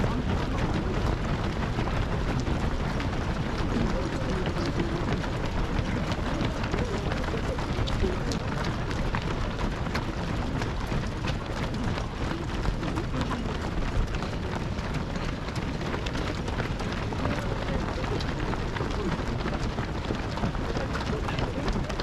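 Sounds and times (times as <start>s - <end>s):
low outdoor rumble: 0.0s - 22.0s
murmur of voices: 0.0s - 22.0s
runners' footsteps on road: 0.0s - 22.0s.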